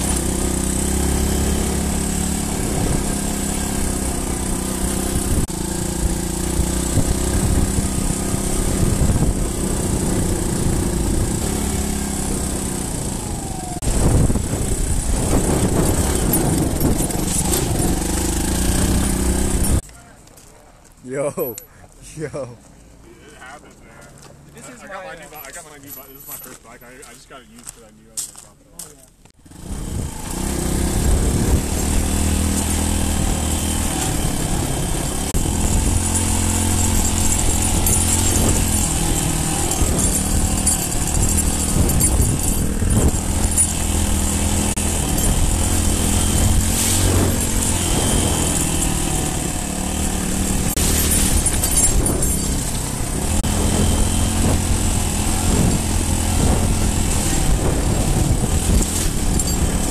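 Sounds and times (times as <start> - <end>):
dirt bike engine running: 0.0 - 19.9, 29.4 - 59.9.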